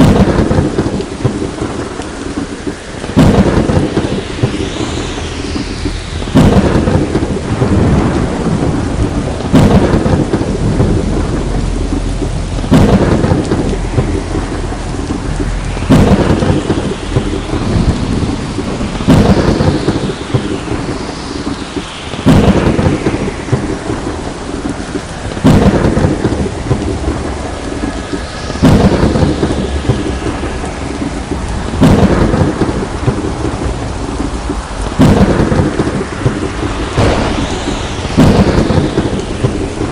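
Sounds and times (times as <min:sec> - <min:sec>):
heavy rain: 0:00.0 - 0:39.9
thunderclaps: 0:00.0 - 0:39.9.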